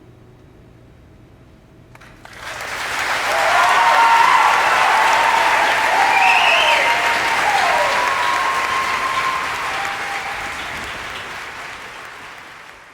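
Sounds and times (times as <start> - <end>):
audience applauding: 2.0 - 12.9
whooping cheers: 2.4 - 12.9.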